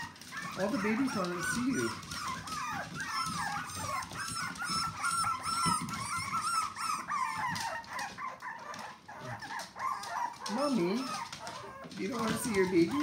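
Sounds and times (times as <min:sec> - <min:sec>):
puppies whining and yelping: 0:00.0 - 0:13.0.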